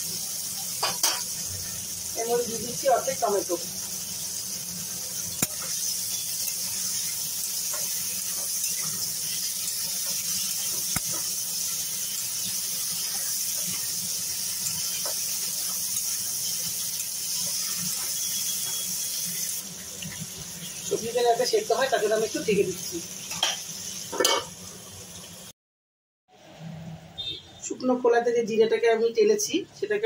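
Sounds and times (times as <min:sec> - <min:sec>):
vegetables sizzling in oil: 0:00.0 - 0:25.5.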